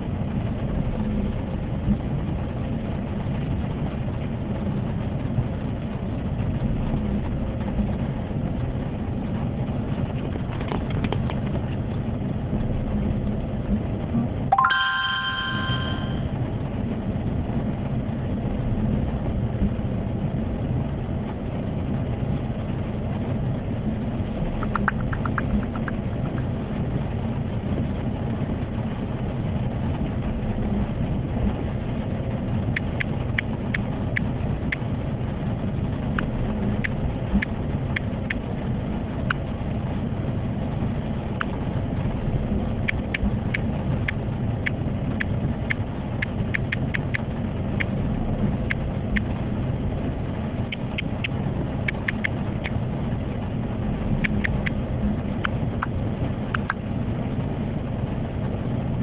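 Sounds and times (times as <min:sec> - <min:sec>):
car cabin road rumble: 0:00.0 - 0:14.5, 0:15.3 - 0:59.0
raindrops ticking on windscreen: 0:00.0 - 0:14.5, 0:16.2 - 0:59.0.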